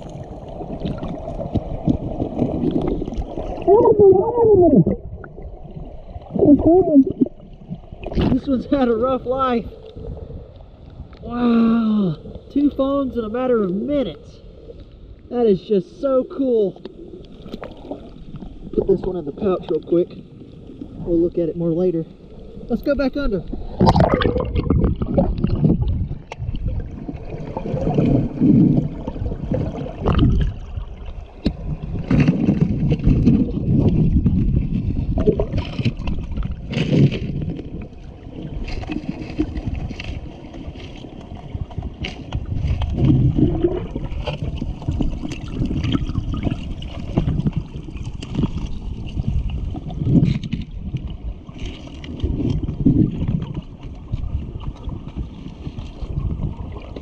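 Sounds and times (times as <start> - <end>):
underwater river water rumble: 0.0 - 57.0.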